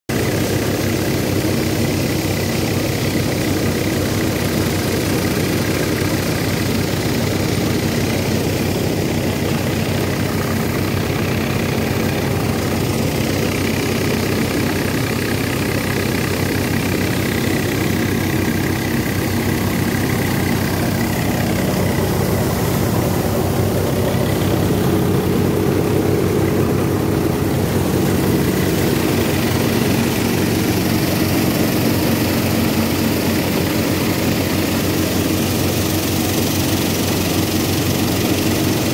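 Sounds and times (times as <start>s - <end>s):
thresher machine droning: 0.1s - 38.9s.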